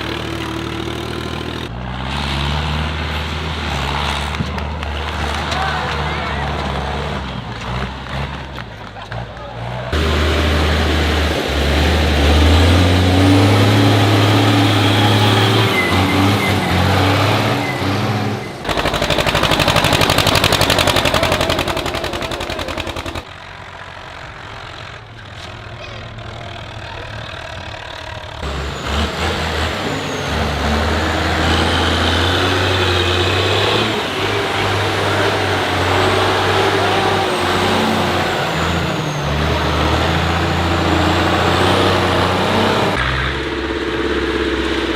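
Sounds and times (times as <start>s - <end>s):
tractor engine running: 0.0s - 44.9s
rapid pulsing exhaust: 2.8s - 44.9s.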